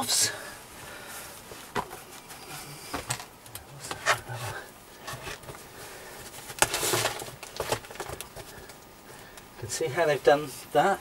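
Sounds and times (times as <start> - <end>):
rubble and sandbags being moved: 0.0 - 11.0.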